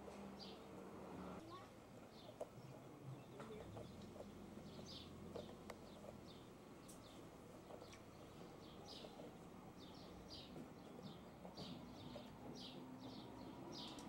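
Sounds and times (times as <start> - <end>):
small birds chirping: 0.3 - 0.8, 1.4 - 14.0.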